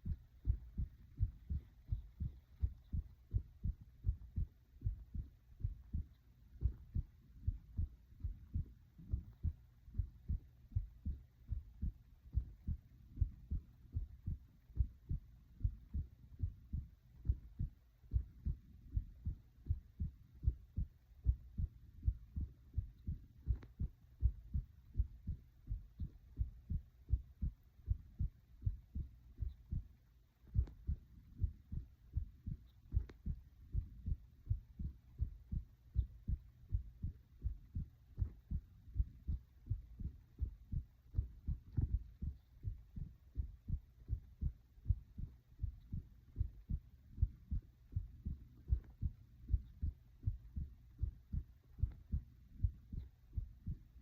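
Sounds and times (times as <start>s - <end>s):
heart beating: 0.0s - 54.0s.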